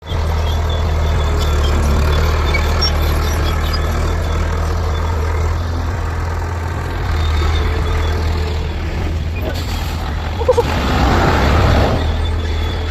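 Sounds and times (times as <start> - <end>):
heavy diesel engine droning: 0.0 - 12.9.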